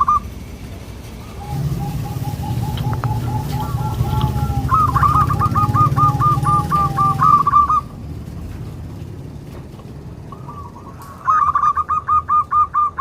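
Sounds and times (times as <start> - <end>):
doves cooing: 0.0 - 8.3, 10.1 - 13.0
low rumble: 0.0 - 11.3.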